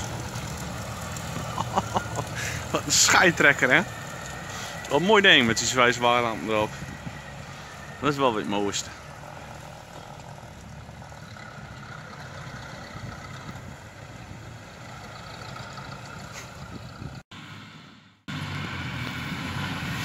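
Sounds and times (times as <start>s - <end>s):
tractor diesel engines humming: 0.0s - 20.0s.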